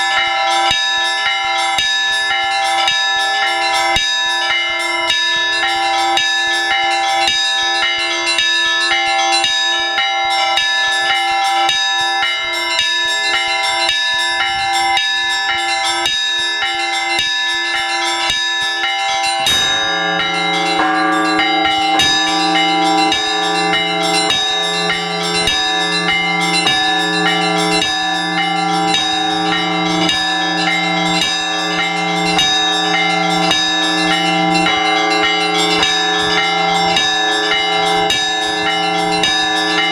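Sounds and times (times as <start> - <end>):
deep heavy bell: 0.0 - 39.9
small church bells ringing: 0.0 - 39.9.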